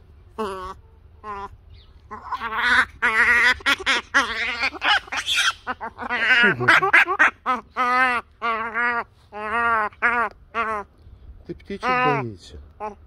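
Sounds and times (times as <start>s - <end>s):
animal calls with wavering pitch: 0.3s - 11.0s, 11.8s - 12.2s, 12.8s - 13.0s.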